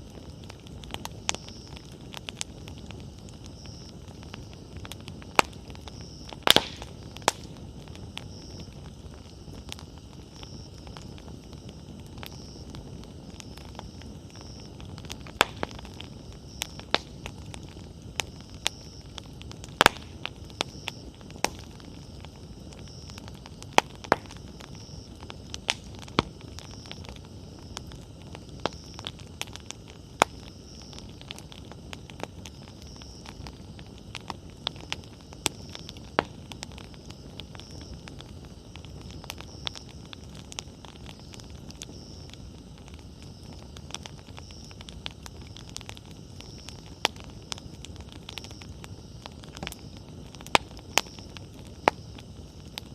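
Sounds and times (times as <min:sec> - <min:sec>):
campfire crackling and popping: 0:00.0 - 0:52.9
flames rushing: 0:00.0 - 0:52.9.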